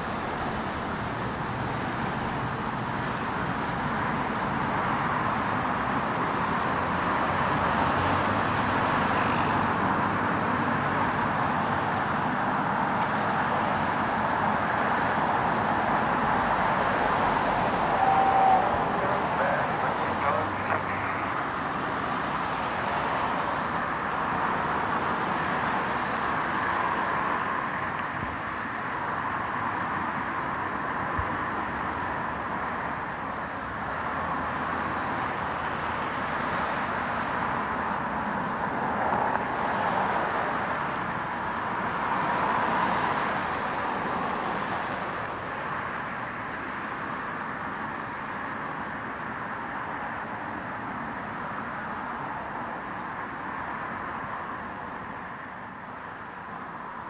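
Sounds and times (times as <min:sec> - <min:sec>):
road traffic noise: 0:00.0 - 0:57.0
vehicles passing: 0:00.0 - 0:57.0.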